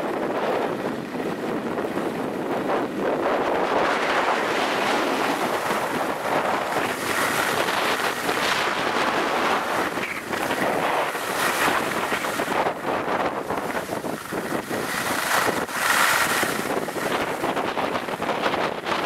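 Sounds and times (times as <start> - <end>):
wind on microphone: 0.0 - 19.0
skis scraping on snow: 0.2 - 19.0.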